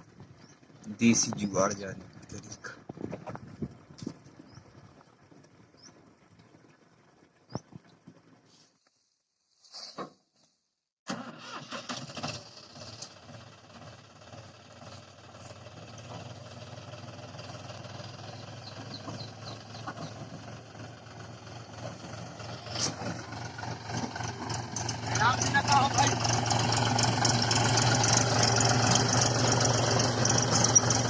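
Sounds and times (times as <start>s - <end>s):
tractor diesel engine running: 0.0s - 8.5s, 11.1s - 31.0s.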